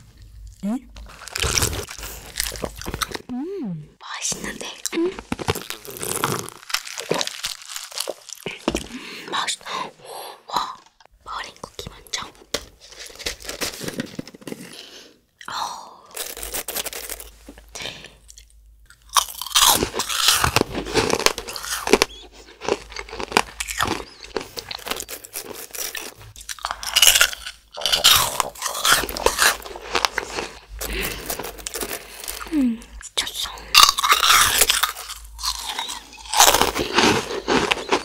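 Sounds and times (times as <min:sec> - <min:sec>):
crunching and chewing cookies: 0:00.2 - 0:03.3, 0:04.4 - 0:09.5, 0:10.6 - 0:38.0.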